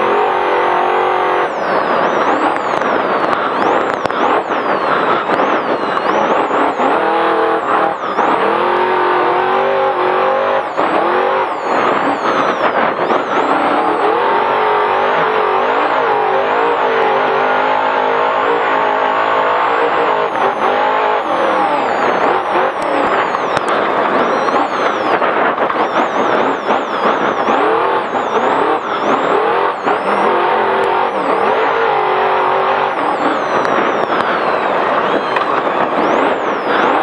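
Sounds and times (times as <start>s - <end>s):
race truck engine revving: 0.0s - 37.0s
tyre and wind noise: 0.0s - 37.0s.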